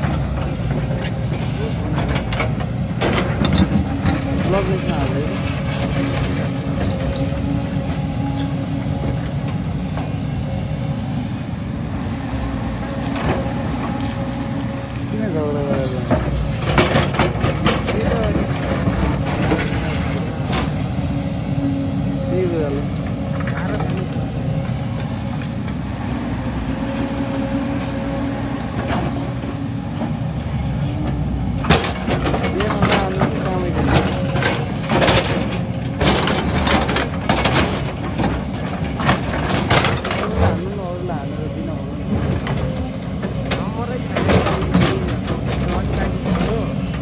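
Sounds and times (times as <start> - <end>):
diesel engine rumbling: 0.0 - 47.0.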